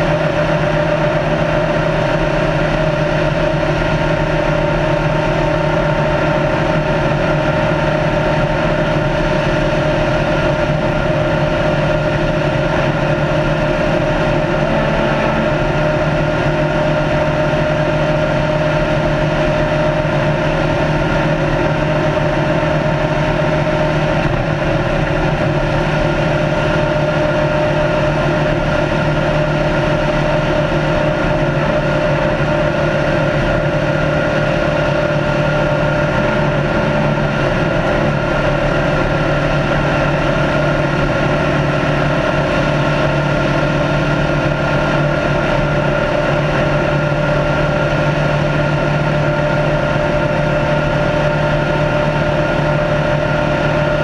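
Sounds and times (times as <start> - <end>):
race car engine running steadily: 0.0 - 54.0
wind and tyre noise: 0.0 - 54.0.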